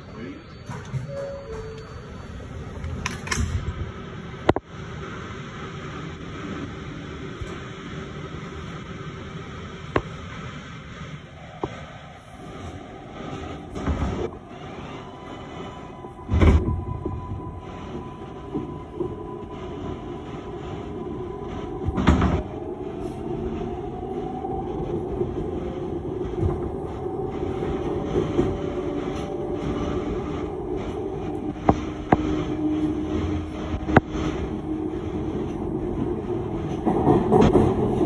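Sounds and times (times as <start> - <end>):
subway car ventilation rumble: 0.0 - 38.0.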